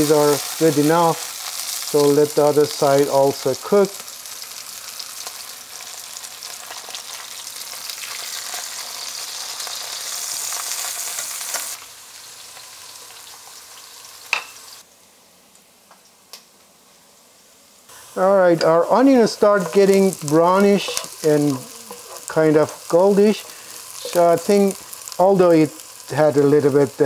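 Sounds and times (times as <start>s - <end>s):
vegetables frying in oil: 0.0s - 14.8s, 17.9s - 27.0s
onion sauteing in a pot: 0.0s - 15.0s, 17.2s - 27.0s.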